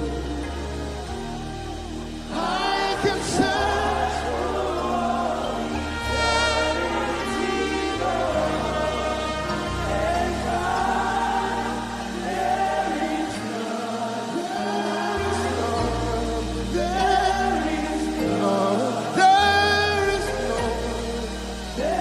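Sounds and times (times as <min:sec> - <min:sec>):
bass and keyboard chords: 0:00.0 - 0:22.0
voices singing: 0:00.0 - 0:22.0.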